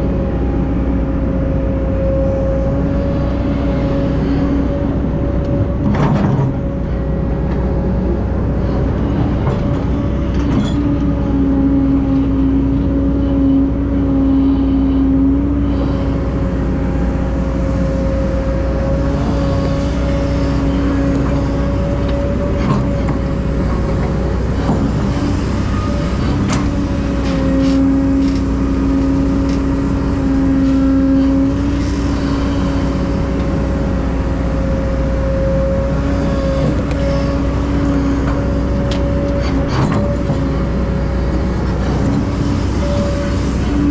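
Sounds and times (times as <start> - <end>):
heavy diesel machinery rumbling: 0.0 - 43.9.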